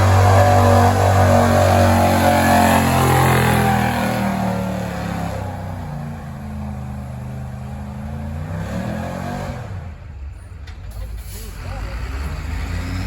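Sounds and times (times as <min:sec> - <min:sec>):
truck engine revving: 0:00.0 - 0:10.2, 0:11.2 - 0:13.0.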